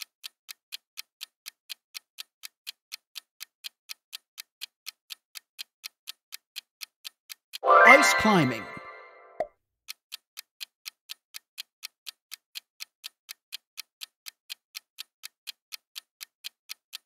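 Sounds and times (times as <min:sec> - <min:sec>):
clock ticking: 0:00.0 - 0:17.0.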